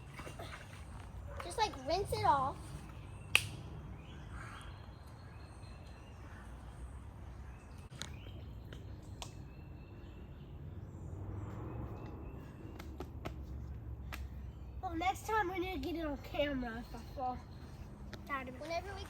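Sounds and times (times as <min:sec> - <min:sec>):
birds chirping faintly: 0:00.0 - 0:19.0.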